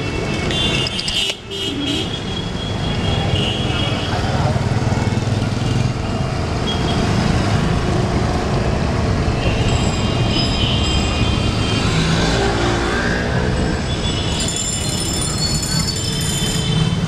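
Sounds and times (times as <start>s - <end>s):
motorbikes passing: 3.1s - 17.0s.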